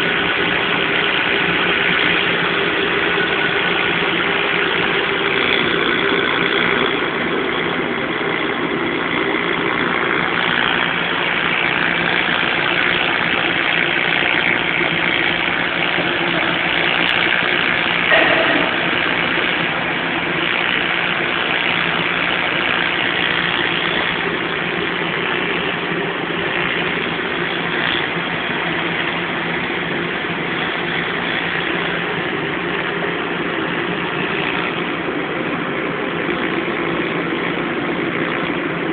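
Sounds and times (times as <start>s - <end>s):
welding arc buzzing hiss: 0.0s - 34.8s
welding machine hum: 0.0s - 38.9s.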